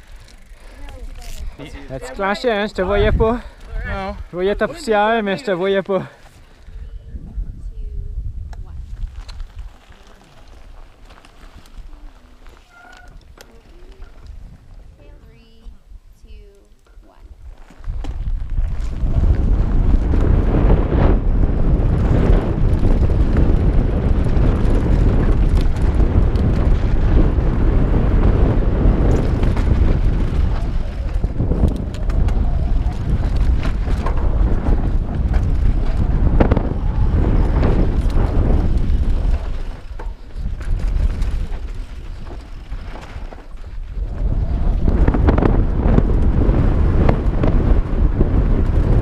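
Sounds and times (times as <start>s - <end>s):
bike rattling over rough ground: 0.0s - 6.9s, 8.7s - 15.7s, 16.7s - 49.0s
wind buffeting microphone: 0.0s - 49.0s.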